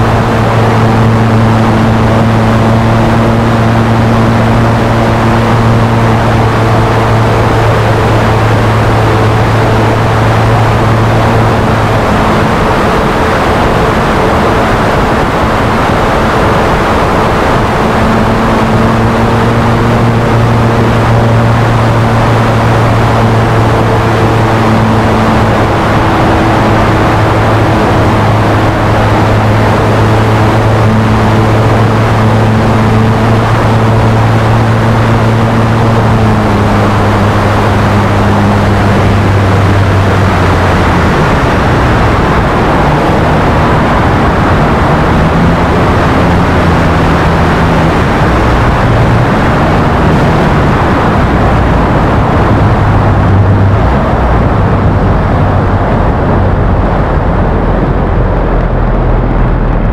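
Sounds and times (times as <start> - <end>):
model plane engine and propeller: 0.0 - 59.9
wind rush: 0.0 - 59.9.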